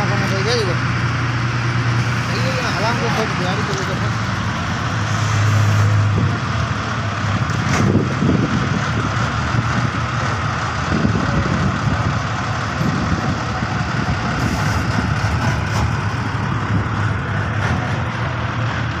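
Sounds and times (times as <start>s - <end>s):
road roller engine running: 0.0s - 19.0s.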